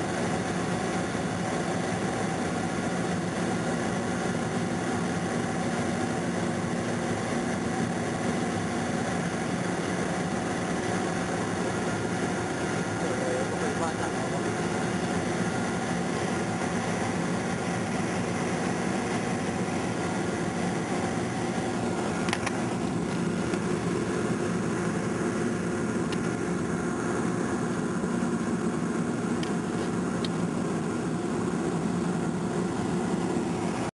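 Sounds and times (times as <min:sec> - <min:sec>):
airplane cabin engine drone: 0:00.0 - 0:33.9.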